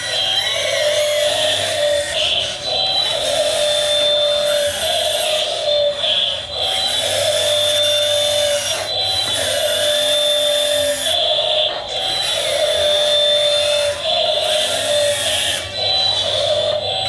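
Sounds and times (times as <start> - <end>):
hydraulic pump whining: 0.0 - 17.0.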